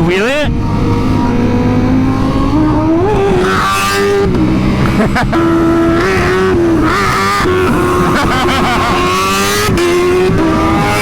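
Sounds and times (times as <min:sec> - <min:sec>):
motorcycle engines running: 0:00.0 - 0:11.0
wind rushing over microphone: 0:00.0 - 0:11.0.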